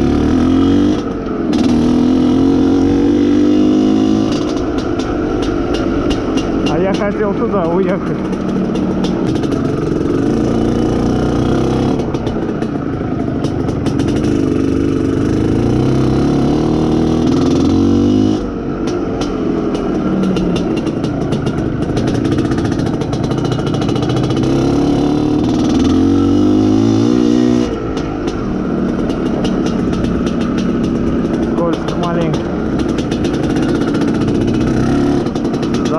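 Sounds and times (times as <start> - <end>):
two-stroke motorcycle engine revving: 0.0 - 35.9.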